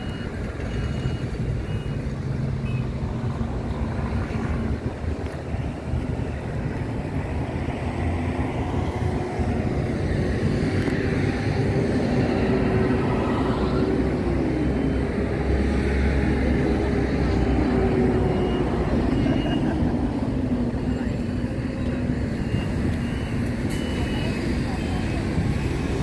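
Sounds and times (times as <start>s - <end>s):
engine hum: 0.0s - 26.0s.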